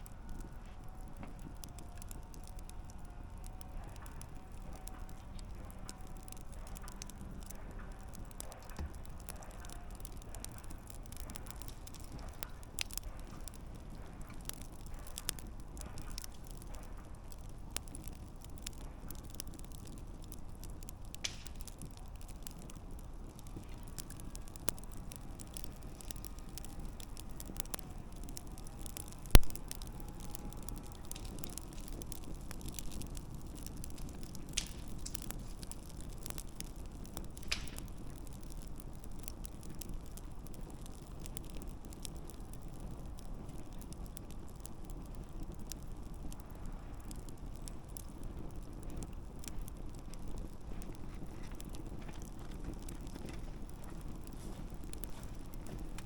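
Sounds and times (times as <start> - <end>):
campfire crackling and popping: 0.0 - 56.0
hiss of flames: 0.0 - 56.0.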